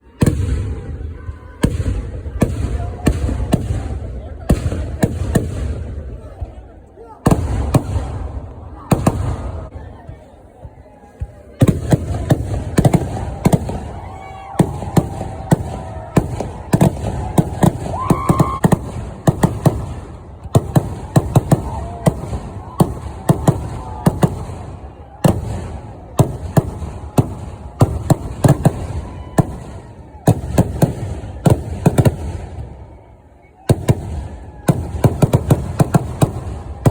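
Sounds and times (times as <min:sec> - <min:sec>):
fireworks exploding with sharp bangs: 0:00.0 - 0:36.9.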